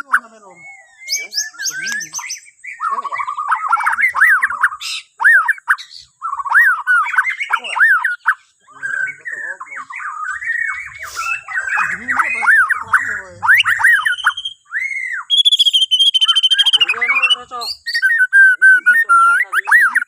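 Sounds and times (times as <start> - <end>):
bird singing whistled phrases: 0.0 - 20.0.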